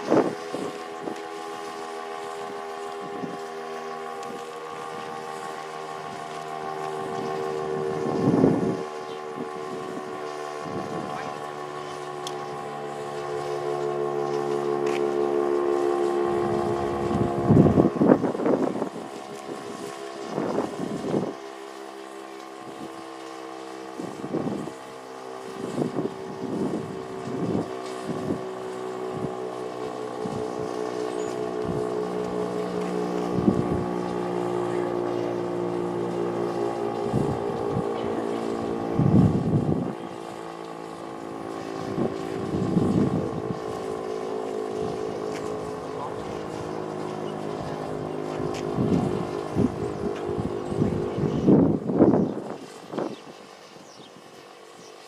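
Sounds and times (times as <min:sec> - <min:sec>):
fire siren: 0:00.0 - 0:52.0.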